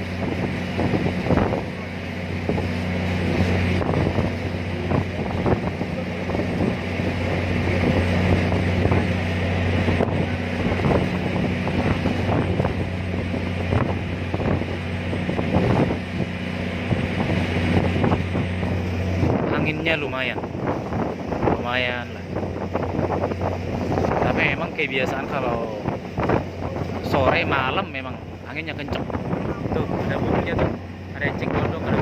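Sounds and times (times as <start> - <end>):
ferry engine droning: 0.0 - 32.0
wind buffeting microphone: 0.0 - 32.0.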